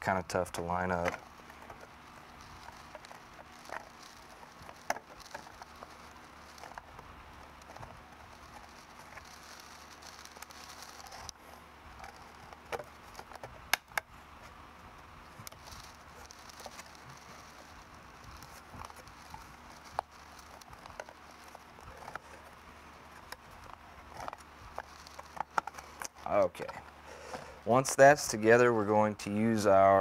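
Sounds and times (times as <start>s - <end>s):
plastic panels rustling: 0.0s - 27.7s.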